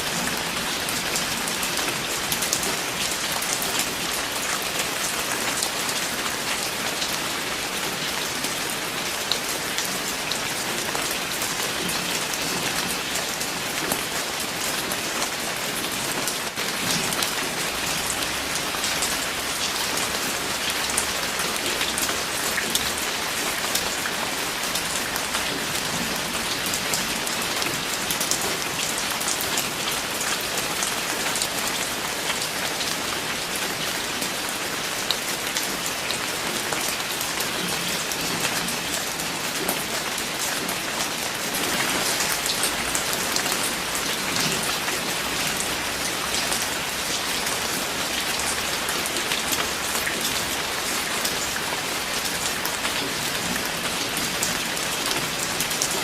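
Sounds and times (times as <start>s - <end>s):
raindrops pattering on a surface: 0.0s - 56.0s
steady rain falling: 0.0s - 56.0s.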